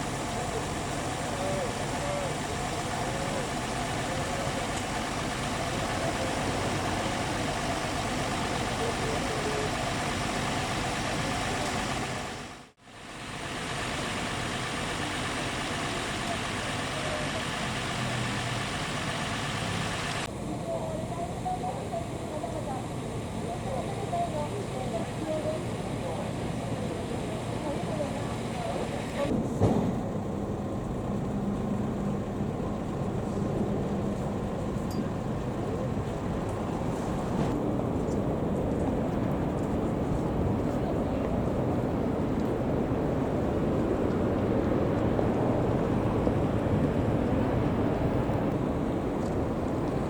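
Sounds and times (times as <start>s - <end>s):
bus engine idling: 0.0s - 50.0s.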